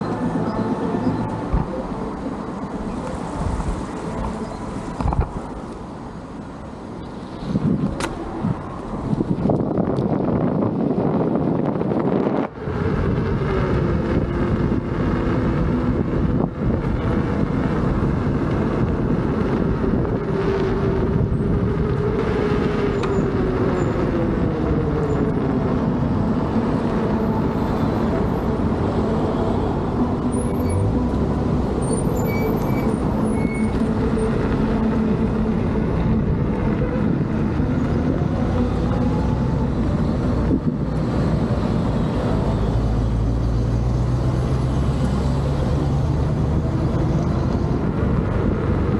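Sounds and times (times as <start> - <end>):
road and wind noise: 0.0 - 48.9.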